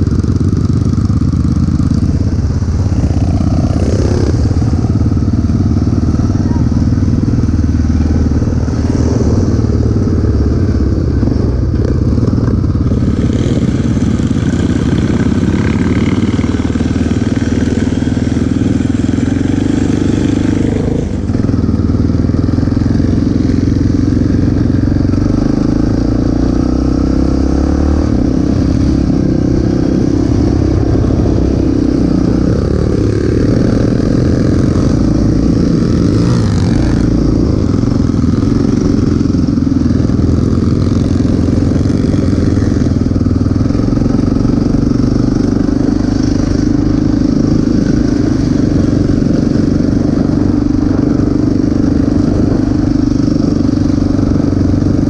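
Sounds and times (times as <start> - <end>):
quad engine running on gravel: 0.0 - 55.0.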